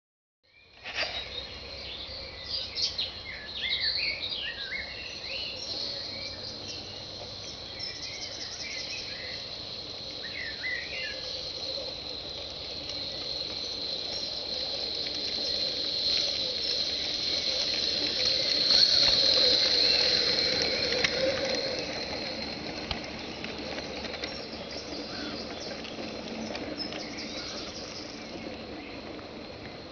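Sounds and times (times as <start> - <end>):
small birds chirping: 0.5 - 29.8
steam locomotive running: 1.3 - 29.9.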